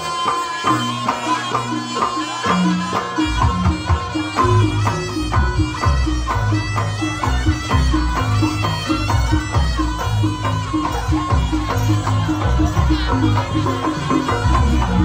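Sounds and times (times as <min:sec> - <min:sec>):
hand drums: 0:00.0 - 0:15.0
reedy wind instrument melody: 0:00.0 - 0:15.0.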